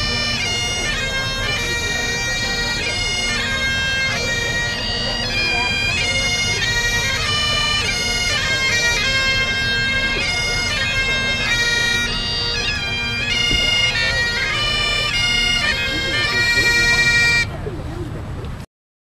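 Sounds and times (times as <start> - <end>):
bagpipes playing slow melody: 0.0 - 17.6.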